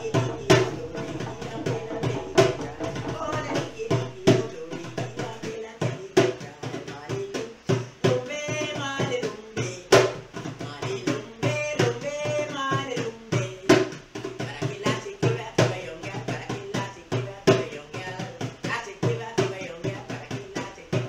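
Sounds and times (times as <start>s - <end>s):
hand drum beaten rhythmically: 0.0s - 21.0s
woman singing: 0.0s - 21.0s.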